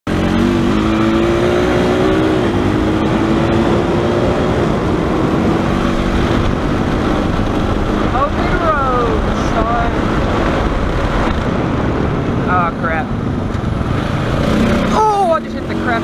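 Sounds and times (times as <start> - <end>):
atv engine running: 0.1 - 16.0
wind noise on microphone: 0.1 - 16.0.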